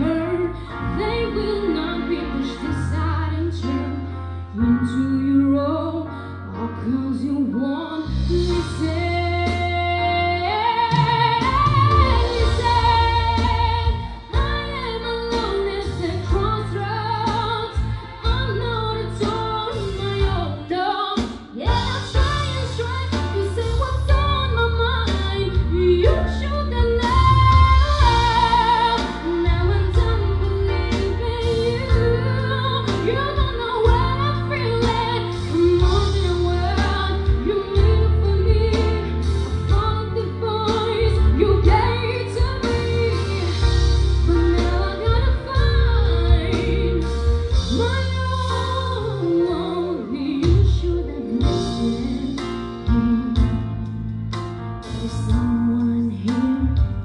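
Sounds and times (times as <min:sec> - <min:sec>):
bass line: 0:00.0 - 0:06.0, 0:08.1 - 0:20.8, 0:21.6 - 0:57.0
woman singing pop song: 0:00.0 - 0:57.0.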